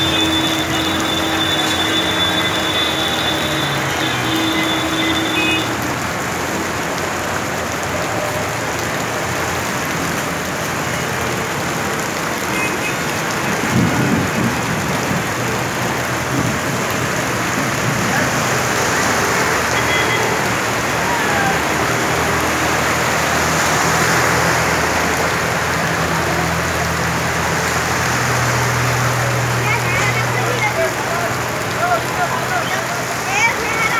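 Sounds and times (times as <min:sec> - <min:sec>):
heavy rain falling: 0:00.0 - 0:33.9
vehicles driving through water: 0:00.0 - 0:33.9.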